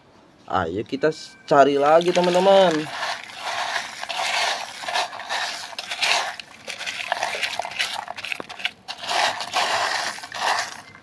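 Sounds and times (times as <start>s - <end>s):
hand raking wet gravel: 1.7s - 11.0s
stones clicking on plastic: 1.9s - 11.0s.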